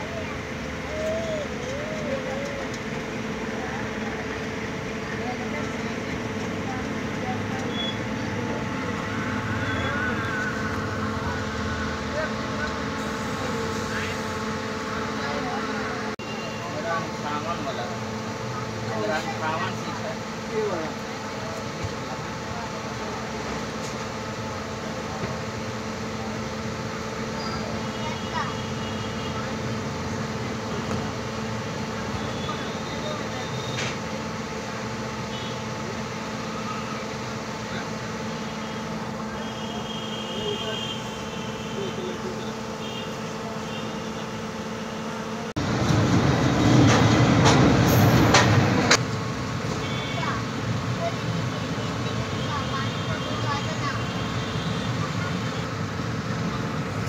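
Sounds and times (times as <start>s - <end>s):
train rumble and hiss: 0.0s - 57.0s.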